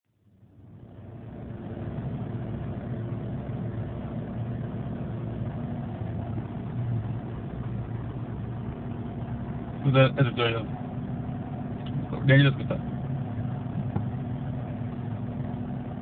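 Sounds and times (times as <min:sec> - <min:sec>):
car engine idling: 0:00.2 - 0:16.0.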